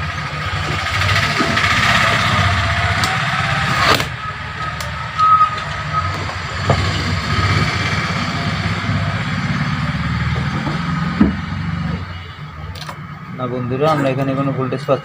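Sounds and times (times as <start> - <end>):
low mechanical rumble: 0.0 - 14.4.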